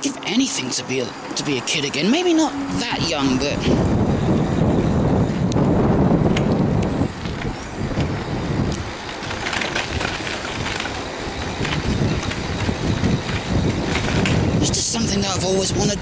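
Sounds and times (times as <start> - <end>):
bike clicks and rattles: 0.0 - 16.0
bicycle tyres rumbling on tarmac: 0.2 - 16.0
wind on microphone: 2.6 - 16.0.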